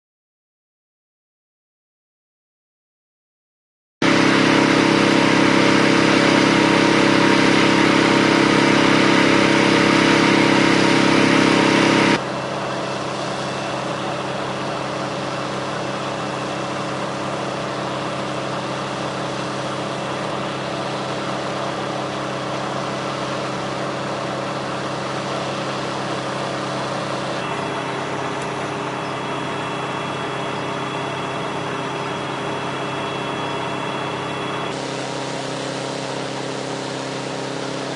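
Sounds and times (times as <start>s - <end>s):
engine idling: 4.0s - 37.9s.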